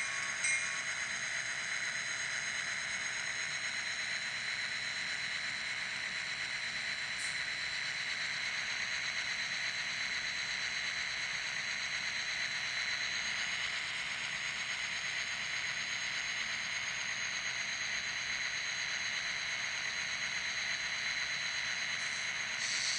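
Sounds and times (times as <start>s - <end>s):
model locomotive diesel engine sound: 0.0s - 22.9s.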